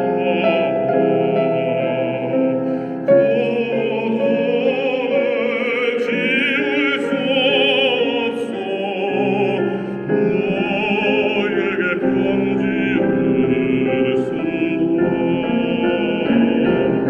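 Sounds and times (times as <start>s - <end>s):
baritone singing operatically: 0.0s - 17.0s.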